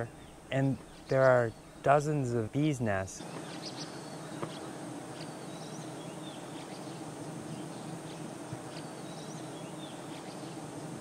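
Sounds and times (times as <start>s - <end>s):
bees droning hum: 0.0s - 11.0s.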